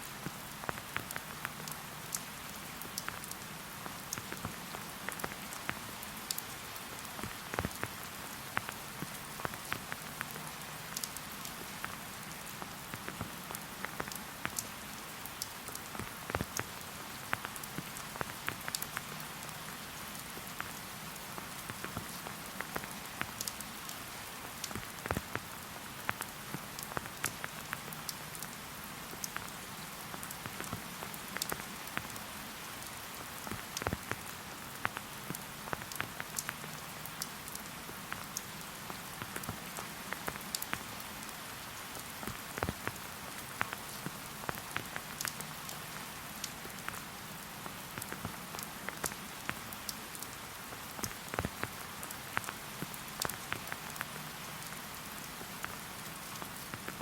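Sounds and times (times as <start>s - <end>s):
raindrops ticking close by: 0.0s - 57.0s
steady rain: 0.0s - 57.0s.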